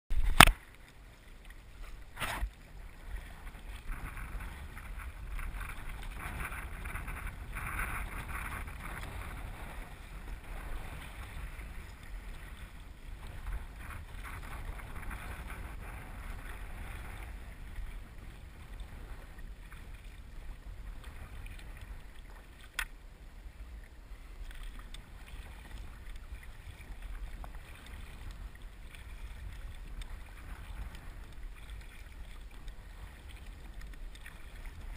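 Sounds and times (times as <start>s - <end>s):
kayak paddles splashing: 0.1s - 34.9s
wind on microphone: 1.5s - 34.9s.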